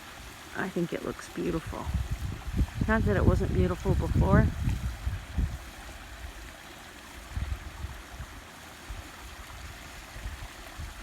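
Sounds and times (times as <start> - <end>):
water rushing over small waterfall: 0.0 - 11.0.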